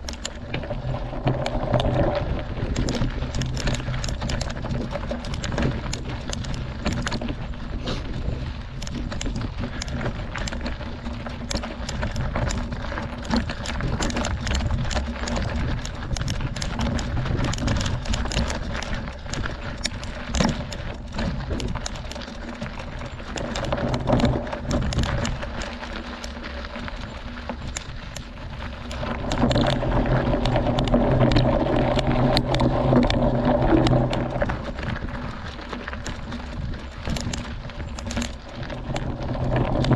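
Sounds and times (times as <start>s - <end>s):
bike rattling and clicking: 0.0s - 39.9s
bike tyres crunching on gravel: 0.0s - 39.9s.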